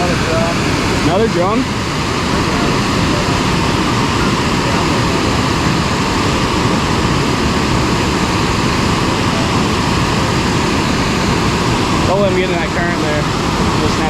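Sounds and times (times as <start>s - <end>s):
water roaring through spillway: 0.0s - 14.0s.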